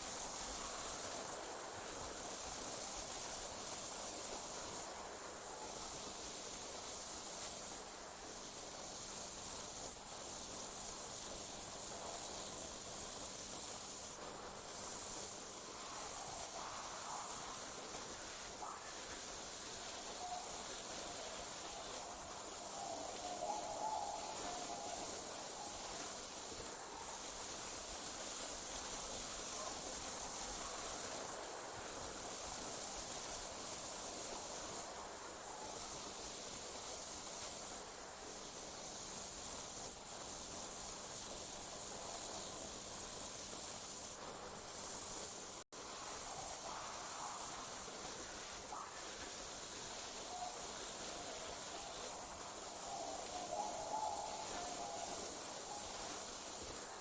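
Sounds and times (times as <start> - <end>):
crickets trilling: 5.6 - 57.0.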